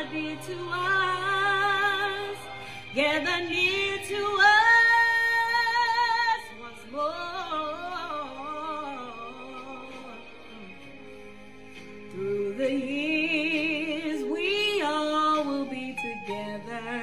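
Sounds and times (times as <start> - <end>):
person singing gospel with vibrato: 0.0 - 11.0, 12.1 - 17.0.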